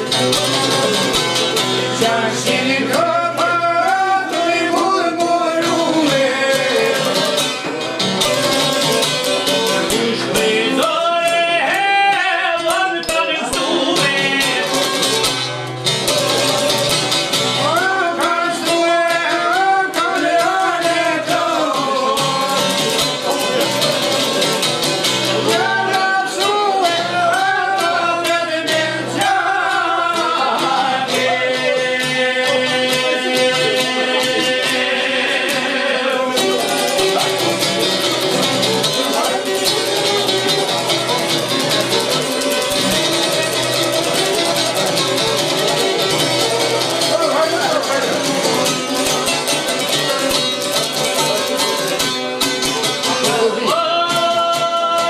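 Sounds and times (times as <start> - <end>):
folk music on plucked strings: 0.0 - 55.0.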